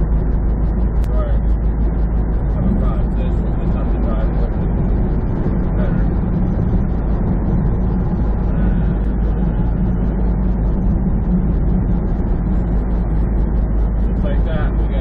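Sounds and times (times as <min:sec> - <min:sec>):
truck diesel engine drone: 0:00.0 - 0:15.0
tyre and road noise: 0:00.0 - 0:15.0.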